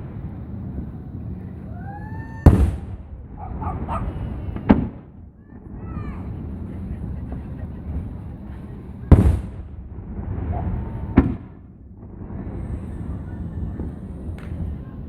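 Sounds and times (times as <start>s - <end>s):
fireworks booming: 0.0s - 15.0s
low rumble of fireworks bursts: 0.0s - 15.0s.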